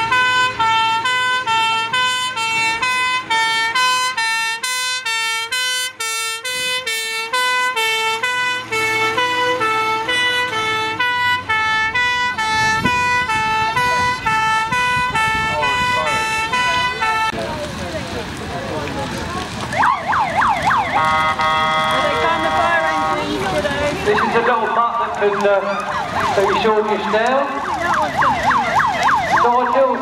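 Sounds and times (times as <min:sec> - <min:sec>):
fire engine two-tone siren: 0:00.0 - 0:17.5, 0:19.4 - 0:30.0.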